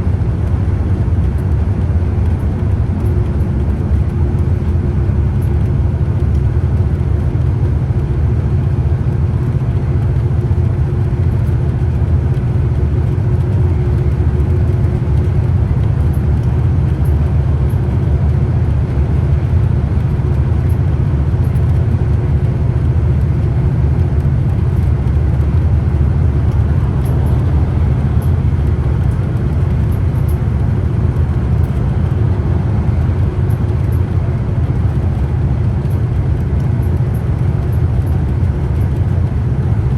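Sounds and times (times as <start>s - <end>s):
bus diesel engine drone: 0.0s - 39.9s
constant hum: 0.0s - 39.9s
road rumble: 0.0s - 39.9s.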